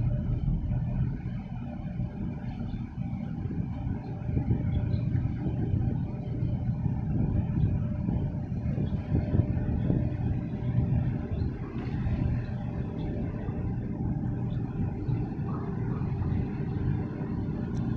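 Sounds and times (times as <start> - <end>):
faint ship engine hum: 0.0 - 17.9
wind buffeting microphone: 0.0 - 17.9.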